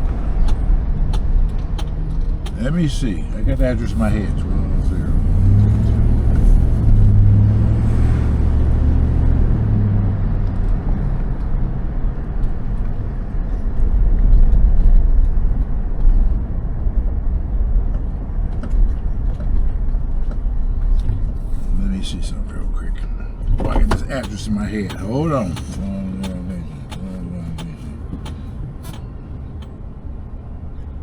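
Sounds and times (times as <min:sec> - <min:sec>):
car engine hum: 0:00.0 - 0:31.0
low road rumble: 0:00.0 - 0:31.0.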